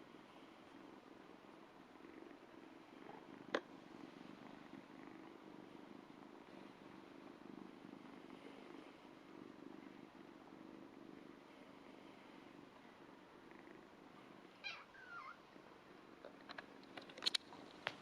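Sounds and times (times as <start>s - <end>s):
kitten purring: 0.0s - 18.0s.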